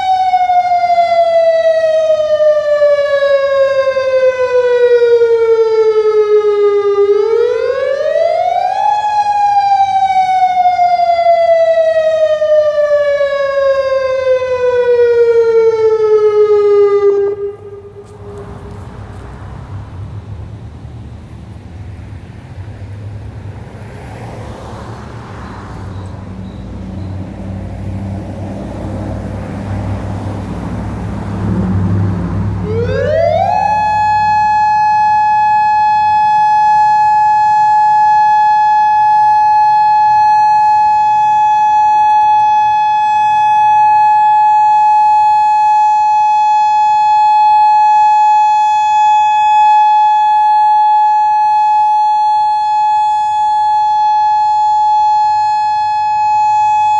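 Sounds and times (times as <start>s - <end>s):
warning siren tone: 0.0s - 19.2s, 25.9s - 56.9s.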